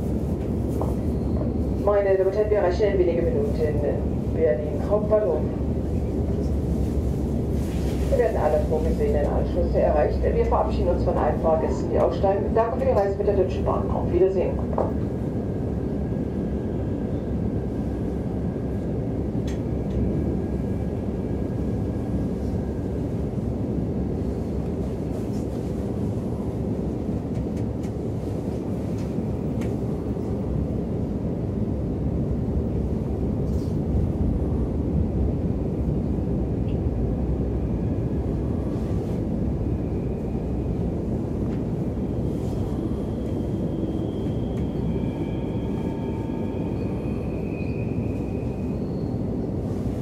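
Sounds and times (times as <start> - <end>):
train rumbling on rails: 0.0 - 50.0.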